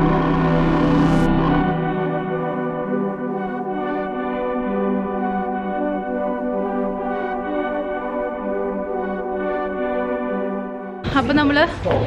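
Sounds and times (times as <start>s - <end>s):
slow ambient music: 0.0s - 11.2s.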